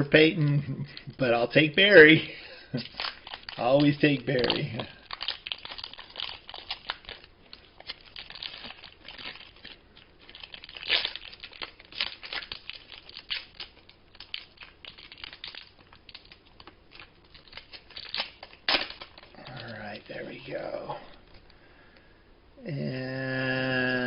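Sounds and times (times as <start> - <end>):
foil wrapper tearing and crinkling: 1.3 - 21.5.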